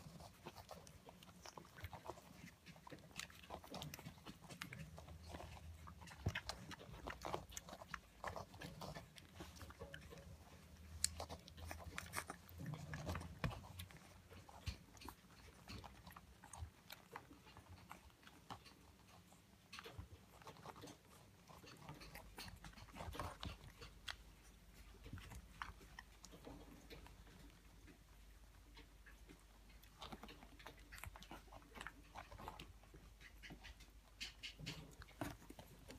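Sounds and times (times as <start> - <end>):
puppies suckling: 0.0 - 35.9.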